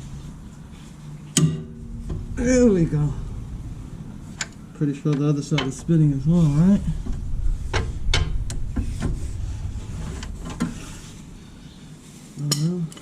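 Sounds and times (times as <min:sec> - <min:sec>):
low handling rumble: 0:00.0 - 0:12.4.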